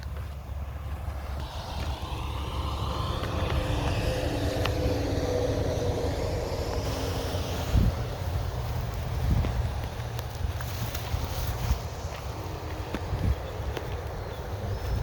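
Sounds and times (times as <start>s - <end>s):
motor vehicle passing: 0.0s - 15.0s
low rumble: 0.4s - 15.0s.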